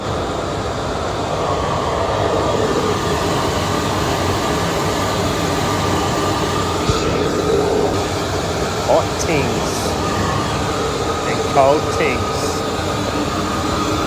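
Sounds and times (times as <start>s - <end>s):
machinery low rumble with hiss: 1.2s - 14.0s.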